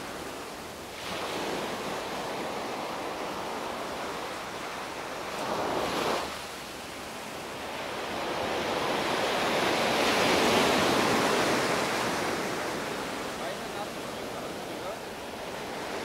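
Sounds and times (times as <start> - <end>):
sea waves breaking on shore: 0.0 - 16.0.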